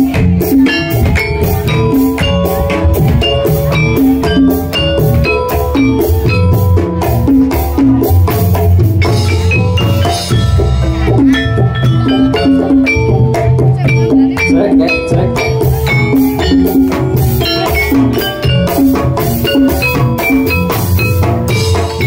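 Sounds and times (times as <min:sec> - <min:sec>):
drums: 0:00.0 - 0:22.0
metal keyed percussion: 0:00.0 - 0:22.0.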